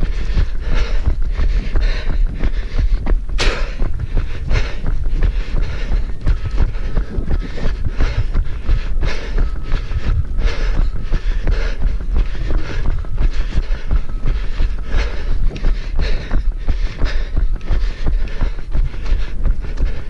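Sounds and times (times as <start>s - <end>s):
wind on microphone: 0.0s - 19.9s
rumble of movement: 0.0s - 20.0s.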